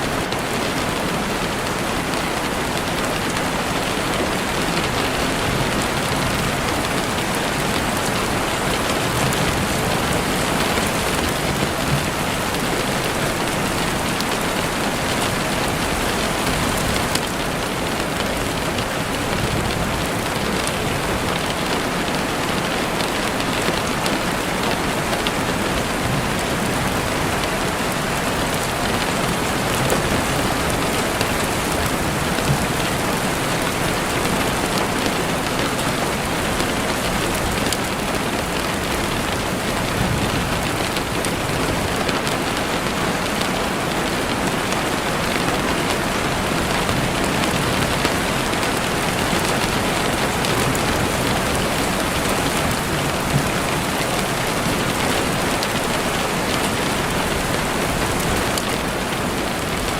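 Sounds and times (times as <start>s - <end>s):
steady rain in woods: 0.0s - 59.9s.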